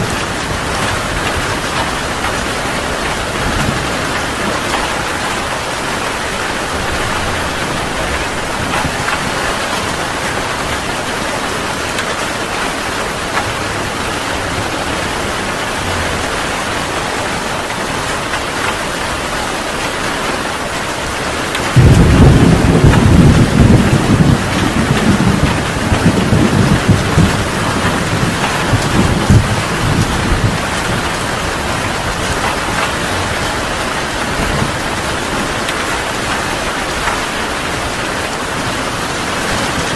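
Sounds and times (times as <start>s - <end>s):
thunder rumbling: 0.0s - 19.3s, 21.0s - 39.9s
heavy rain falling: 0.0s - 39.9s.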